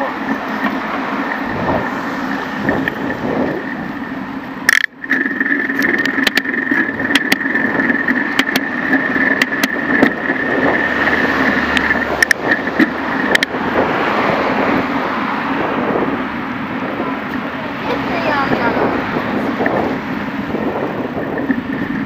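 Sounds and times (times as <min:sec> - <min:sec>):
clicks and rattles over bumps: 0:00.0 - 0:15.0, 0:16.4 - 0:22.0
bicycle rolling on pavement: 0:00.0 - 0:22.0.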